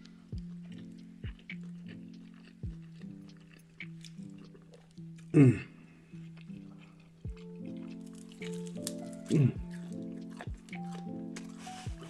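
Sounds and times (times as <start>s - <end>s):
background music with held chords: 0.0s - 12.0s
wet chewing of food: 0.0s - 12.0s.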